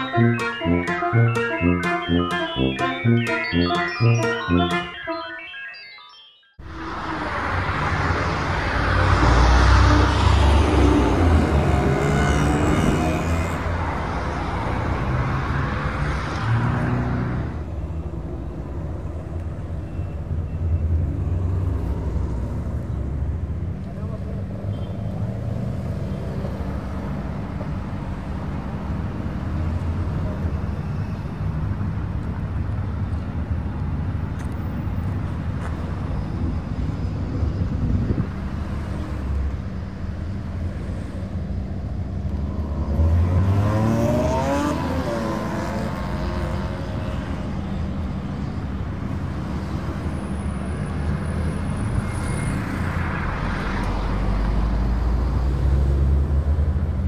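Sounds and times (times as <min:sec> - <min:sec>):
street traffic rumble: 0:06.6 - 0:57.0.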